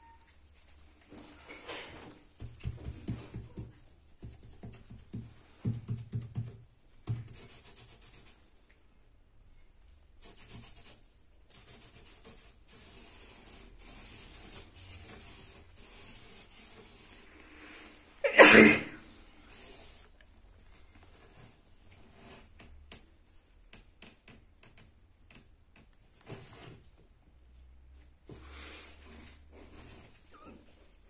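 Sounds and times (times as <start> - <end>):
faint scratchy rubbing and rustling: 0.0 - 5.9, 9.8 - 18.3, 19.0 - 31.0.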